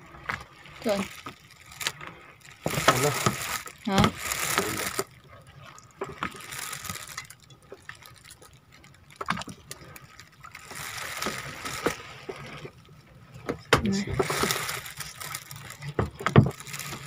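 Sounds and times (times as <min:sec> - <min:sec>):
small waves lapping against boat: 0:00.0 - 0:17.0.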